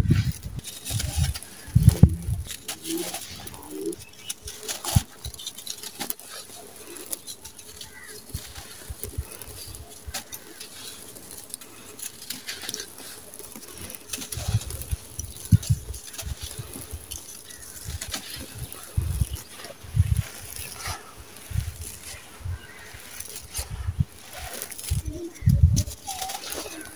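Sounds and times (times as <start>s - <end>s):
sand trickling onto sand pile: 0.0s - 26.9s.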